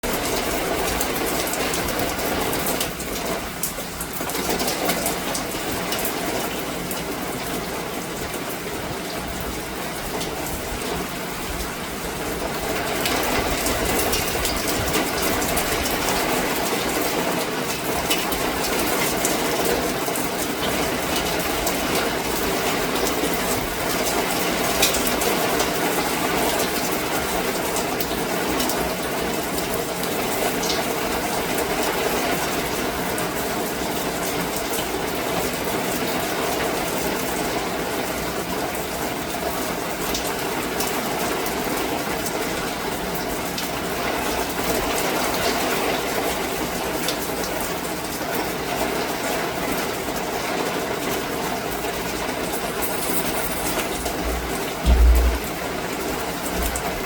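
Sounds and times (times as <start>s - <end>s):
steady downpour of rain: 0.0s - 52.8s, 53.9s - 57.0s.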